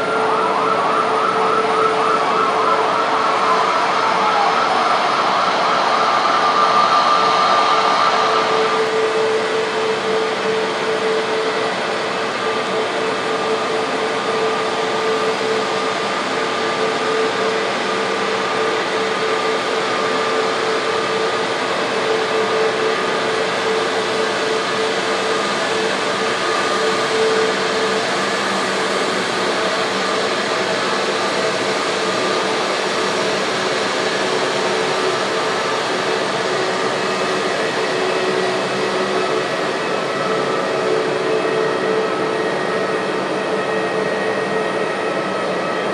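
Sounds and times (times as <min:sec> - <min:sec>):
jet engines whining: 0:00.0 - 0:45.9.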